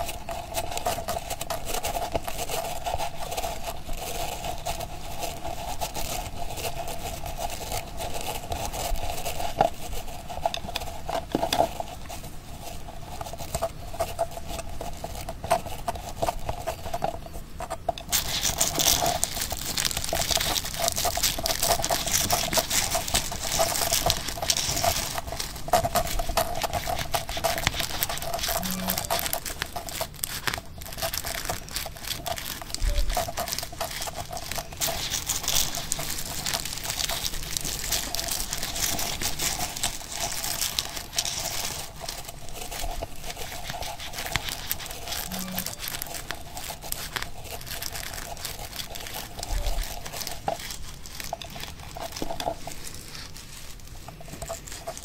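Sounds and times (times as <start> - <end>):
material crinkling and rustling: 0.0 - 55.0.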